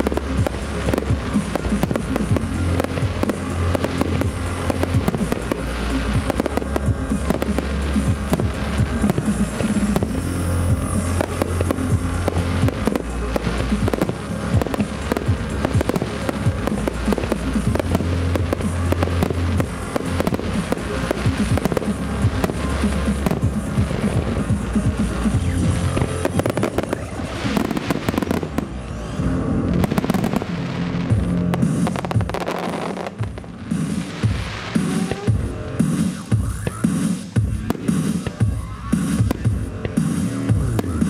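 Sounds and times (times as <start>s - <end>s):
fireworks bursting: 0.0s - 41.0s
loud music from loudspeaker: 0.0s - 41.0s.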